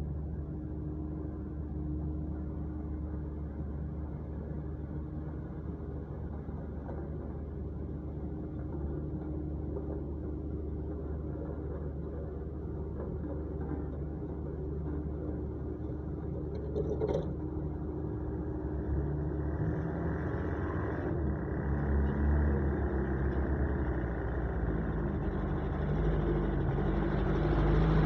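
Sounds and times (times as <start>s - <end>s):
road compactor engine rumbling: 0.0s - 28.0s.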